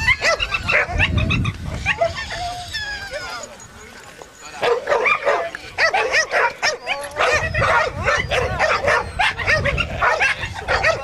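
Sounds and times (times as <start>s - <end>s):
dogs barking and yelping: 0.0s - 3.8s, 4.4s - 11.0s.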